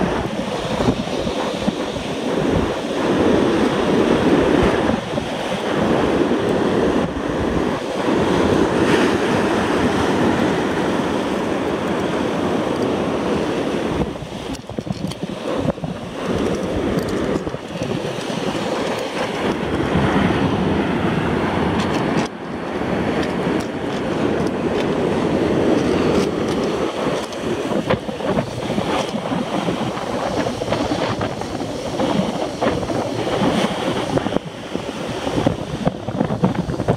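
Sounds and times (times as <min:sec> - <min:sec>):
surf breaking over rocks: 0:00.0 - 0:36.9
wind buffeting microphone: 0:00.0 - 0:36.9.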